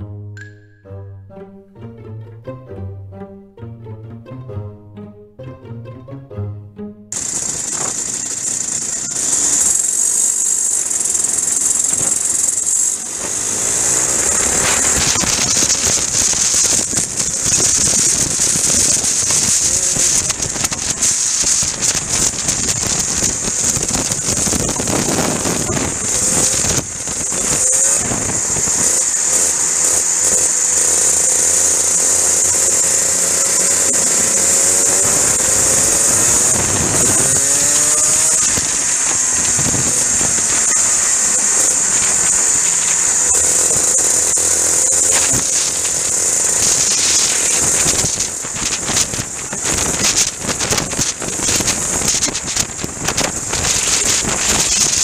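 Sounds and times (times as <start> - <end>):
kart engines revving: 7.1 - 55.0
steady high hiss: 7.1 - 55.0.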